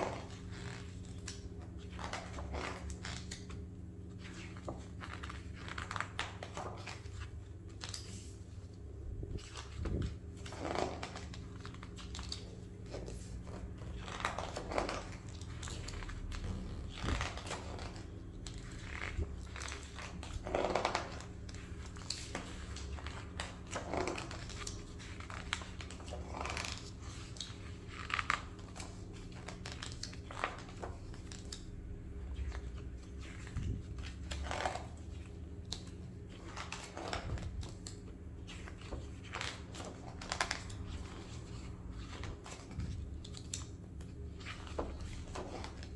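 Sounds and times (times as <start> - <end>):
book pages turning: 0.0 - 45.9.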